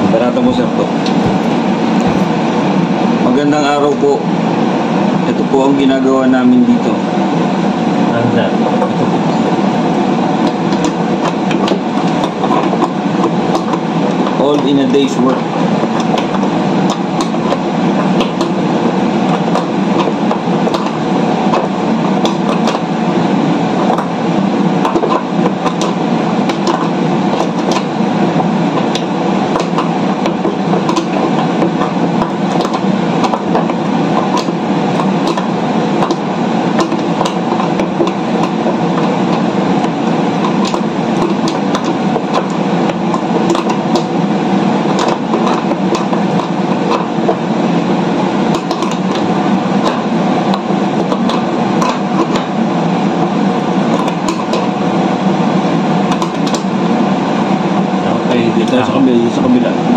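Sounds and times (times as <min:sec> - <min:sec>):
loud machinery noise: 0:00.0 - 0:59.9.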